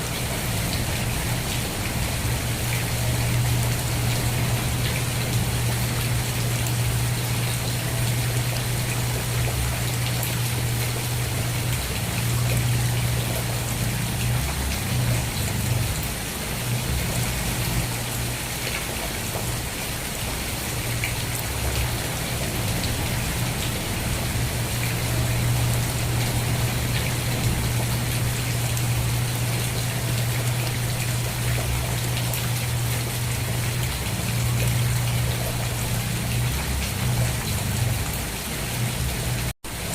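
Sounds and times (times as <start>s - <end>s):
constant low hum: 0.0s - 39.5s
steady rain falling: 0.0s - 39.9s.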